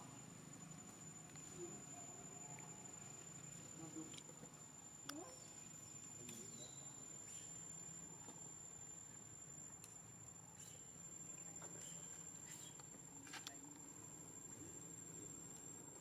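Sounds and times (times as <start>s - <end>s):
faint high-pitched whine: 0.0s - 16.0s.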